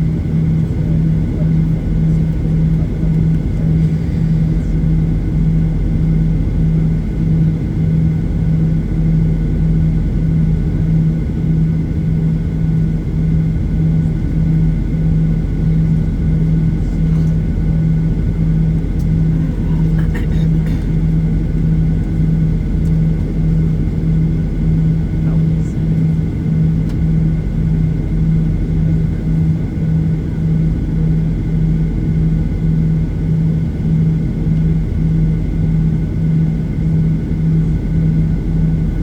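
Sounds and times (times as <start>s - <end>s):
faint steady whines: 0.0s - 39.0s
jet engines idling in cabin: 0.0s - 39.0s.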